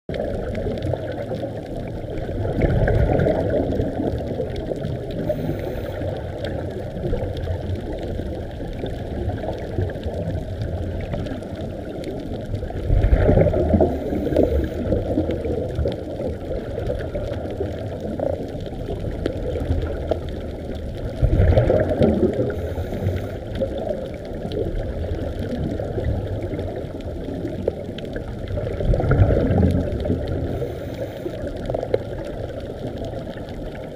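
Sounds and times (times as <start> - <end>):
low rush of water: 0.1 - 33.9
underwater air bubbles: 0.1 - 33.9.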